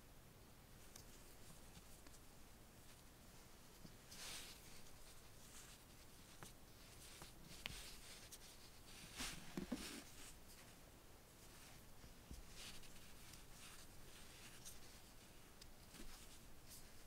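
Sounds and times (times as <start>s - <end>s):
thread rustling on crochet hook: 0.8s - 17.0s.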